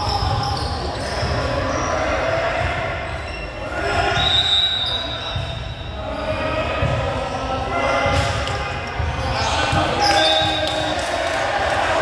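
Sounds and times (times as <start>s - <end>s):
sneaker squeaks: 0.0s - 6.0s, 6.8s - 10.9s
scattered voices: 0.0s - 12.0s.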